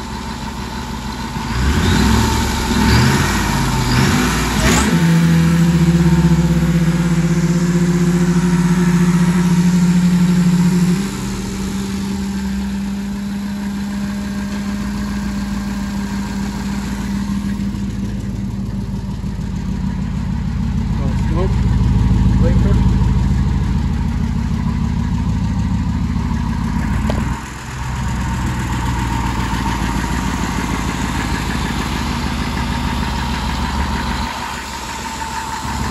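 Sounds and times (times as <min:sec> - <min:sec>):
truck engine revving: 0:01.1 - 0:35.9.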